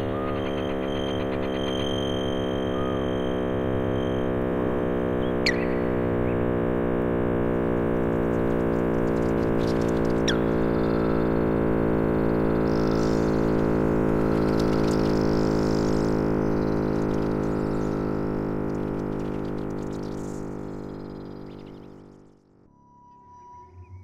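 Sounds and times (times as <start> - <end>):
low synthesizer-like drone: 0.0 - 24.0.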